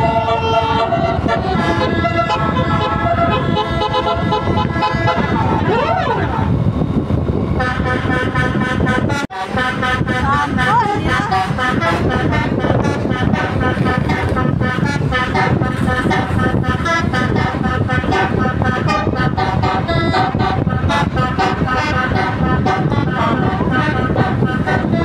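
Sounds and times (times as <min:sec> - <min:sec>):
bus horn playing tune: 0:00.0 - 0:06.8, 0:07.4 - 0:25.0
low rumble: 0:00.0 - 0:25.0.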